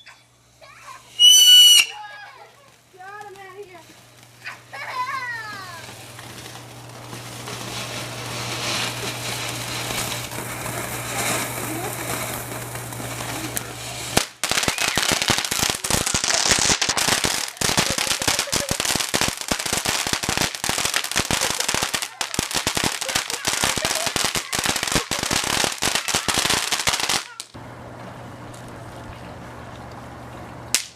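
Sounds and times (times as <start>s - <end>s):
fireworks hiss: 0.5s - 27.6s
firecracker pops crackling: 1.1s - 27.6s.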